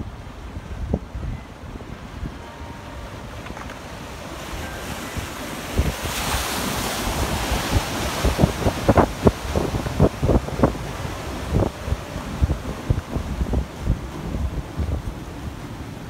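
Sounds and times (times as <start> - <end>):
waves washing in: 0.0 - 16.0
wind on microphone: 0.0 - 16.0.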